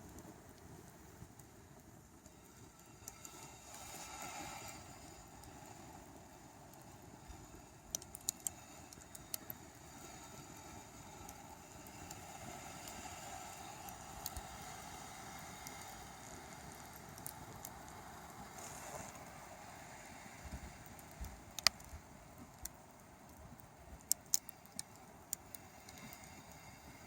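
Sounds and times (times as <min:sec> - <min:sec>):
campfire crackling: 0:00.0 - 0:27.0
steady low hiss: 0:00.0 - 0:27.0.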